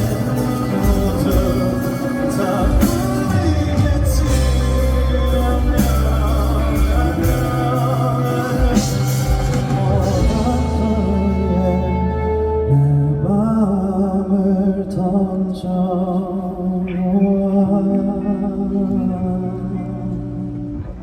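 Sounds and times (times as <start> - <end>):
live band playing pop-rock: 0.0 - 21.0
person singing: 0.0 - 21.0.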